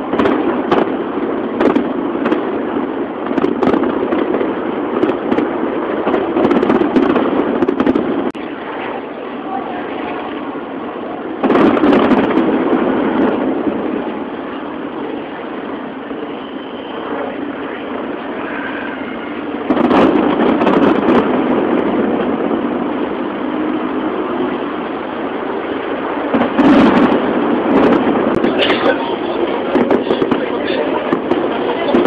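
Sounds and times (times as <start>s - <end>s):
distant fireworks booms: 0.0s - 32.0s
fireworks crackle: 0.0s - 32.0s
rolling rumble: 0.0s - 32.0s.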